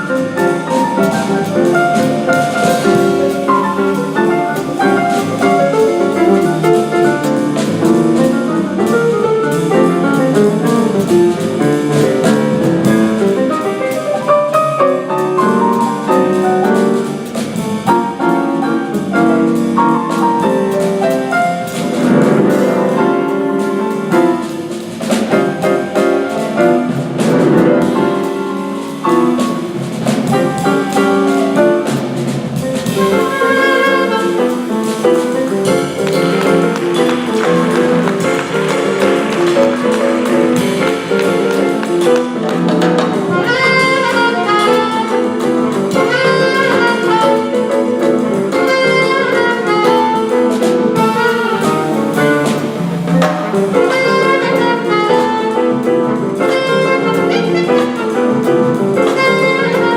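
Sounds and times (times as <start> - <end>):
acoustic piano fast lines: 0.0 - 59.9
drum kit and cymbals: 0.0 - 59.9.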